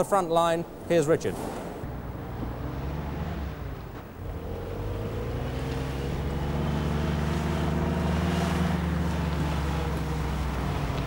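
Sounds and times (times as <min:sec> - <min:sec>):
jeep engine running: 0:01.8 - 0:11.0.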